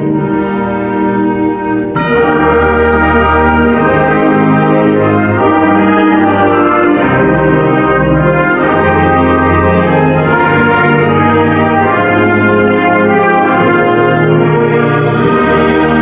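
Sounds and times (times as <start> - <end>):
brass chords: 0.0 - 16.0
concert band playing: 0.0 - 16.0.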